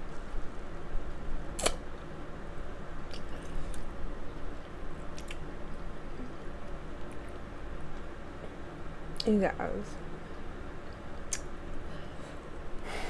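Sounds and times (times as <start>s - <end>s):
room fan humming: 0.0s - 13.0s.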